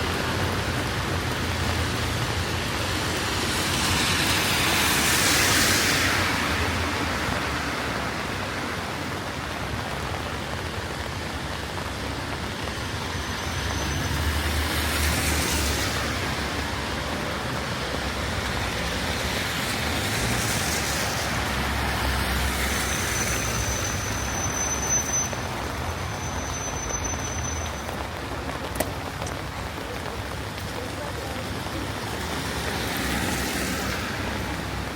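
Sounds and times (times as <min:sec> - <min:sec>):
cars passing on wet road: 0:00.0 - 0:34.9
steady rain: 0:00.0 - 0:34.9.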